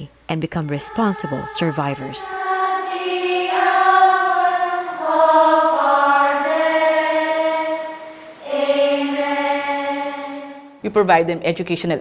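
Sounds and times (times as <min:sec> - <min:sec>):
choir singing long held notes: 0:00.7 - 0:10.8.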